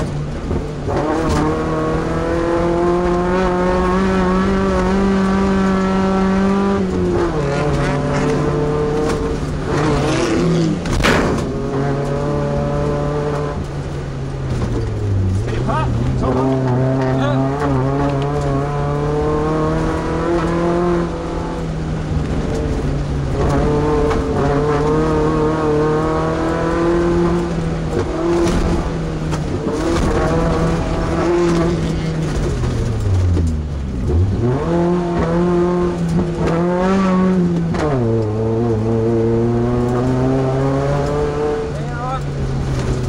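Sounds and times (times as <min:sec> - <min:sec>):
truck engine revving hard: 0:00.8 - 0:13.7, 0:14.5 - 0:33.3, 0:34.0 - 0:43.0.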